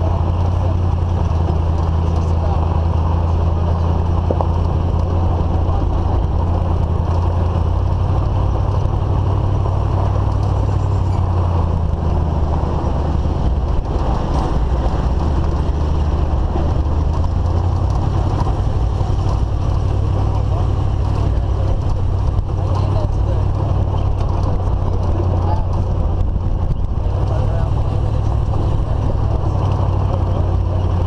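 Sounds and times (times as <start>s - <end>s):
low engine drone: 0.0s - 31.0s
road noise: 0.0s - 31.0s.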